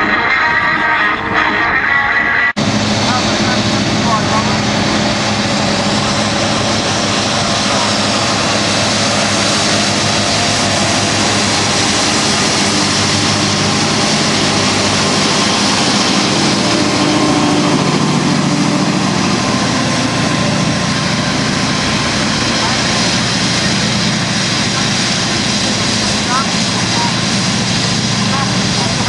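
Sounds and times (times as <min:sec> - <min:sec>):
heavy diesel engine running: 0:02.6 - 0:29.0.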